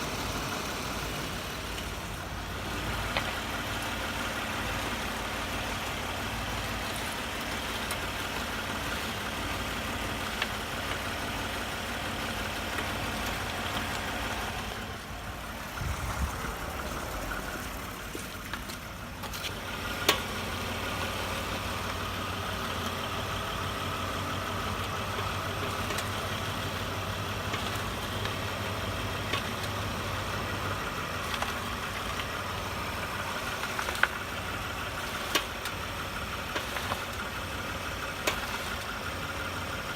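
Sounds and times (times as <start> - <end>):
vehicle running: 0.0 - 39.9.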